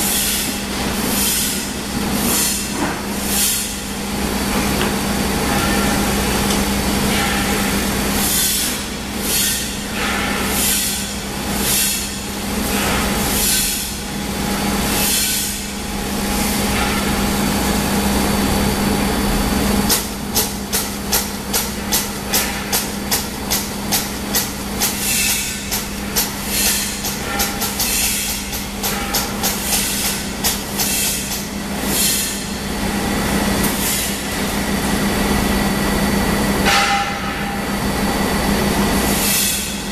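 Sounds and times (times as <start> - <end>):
stuffing machine humming: 0.0 - 39.9.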